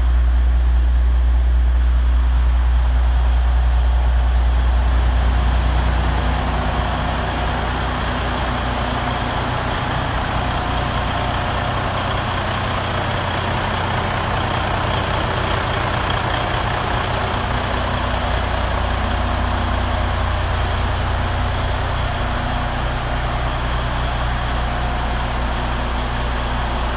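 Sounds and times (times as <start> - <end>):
diesel truck engine idling: 0.0 - 26.9.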